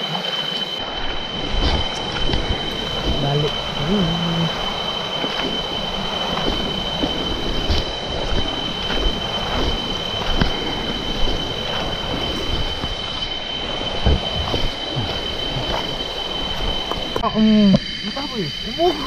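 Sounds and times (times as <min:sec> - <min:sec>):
stream rushing over stones: 0:00.0 - 0:17.2
high-pitched insect drone: 0:00.0 - 0:19.0
footsteps on rocks and leaves: 0:01.0 - 0:17.2.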